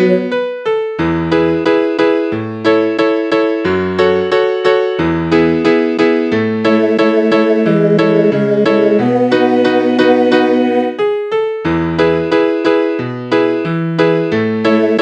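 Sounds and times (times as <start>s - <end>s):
instrumental piano music: 0.0s - 15.0s.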